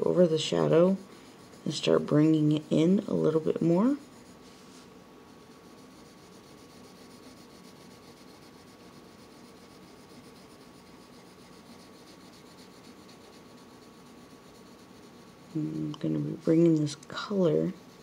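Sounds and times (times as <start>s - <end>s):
colored pencil scratching paper: 0.0s - 18.0s.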